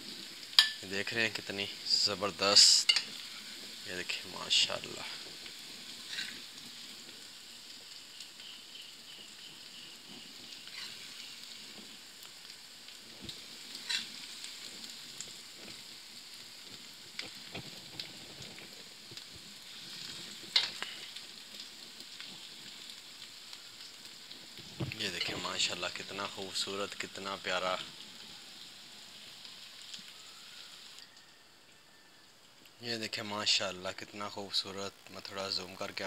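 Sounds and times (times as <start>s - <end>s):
food sizzling in a pan: 0.0s - 36.0s.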